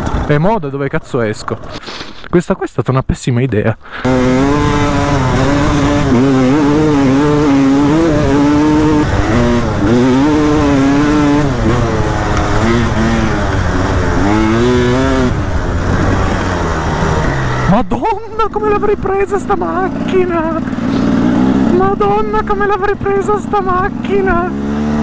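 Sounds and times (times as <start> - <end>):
two-stroke motorcycle engine revving: 4.0 - 25.0.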